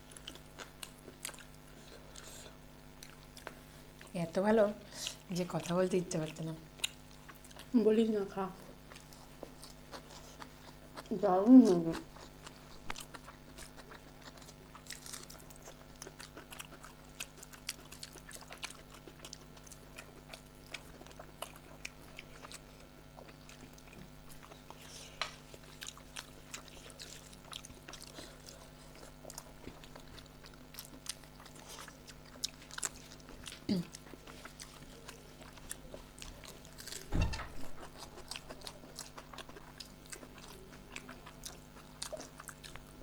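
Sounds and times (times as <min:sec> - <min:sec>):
faint steady hum: 0:00.0 - 0:43.0
people chewing food: 0:00.0 - 0:43.0.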